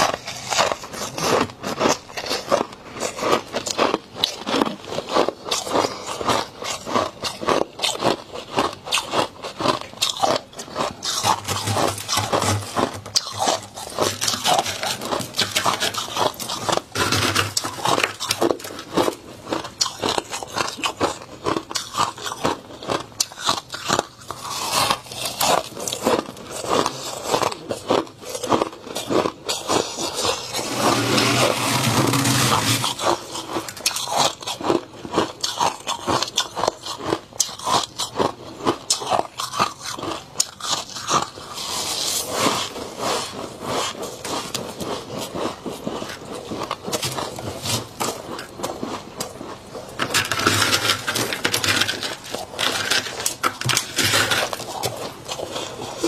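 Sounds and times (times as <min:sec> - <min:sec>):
frost being chewed crunching: 0:00.0 - 0:56.0.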